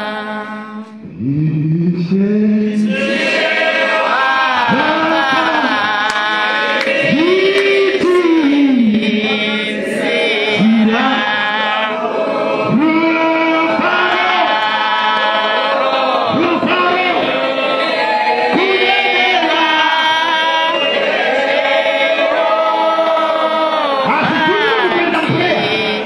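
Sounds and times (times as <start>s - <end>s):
man singing through microphone: 0.0s - 3.1s, 4.4s - 12.0s, 12.6s - 17.9s, 18.5s - 20.8s, 22.2s - 26.0s
group of voices singing: 0.0s - 26.0s.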